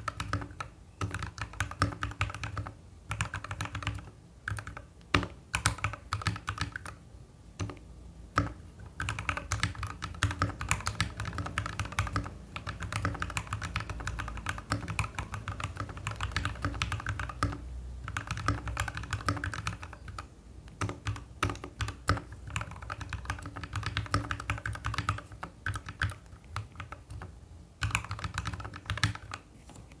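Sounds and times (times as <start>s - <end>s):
typing on a mechanical keyboard: 0.0s - 7.0s, 7.6s - 7.8s, 8.4s - 29.5s.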